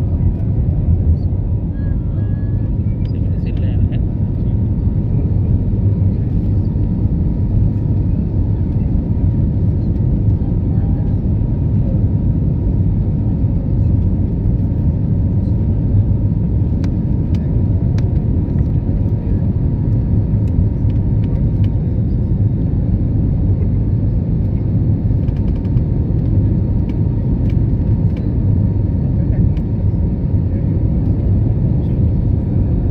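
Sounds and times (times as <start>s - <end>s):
airplane cabin rumble: 0.0s - 32.9s.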